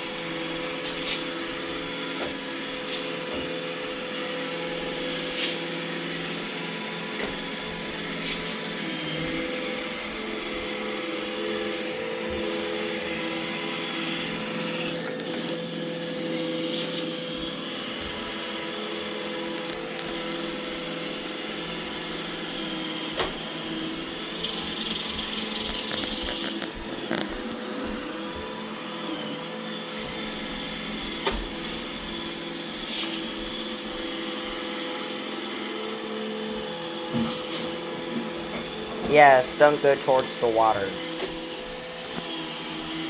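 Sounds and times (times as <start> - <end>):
robot vacuum running: 0.0 - 43.0.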